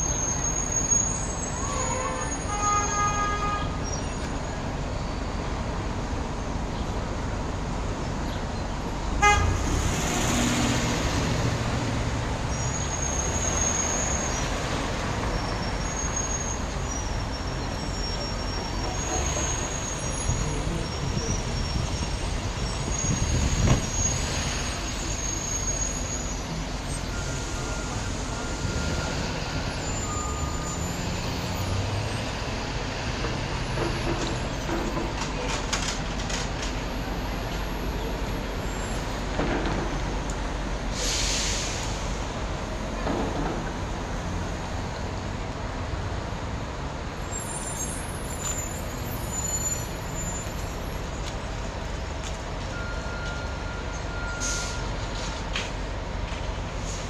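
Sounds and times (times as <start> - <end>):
traffic passing: 0.0 - 57.0
truck passing close: 8.8 - 57.0.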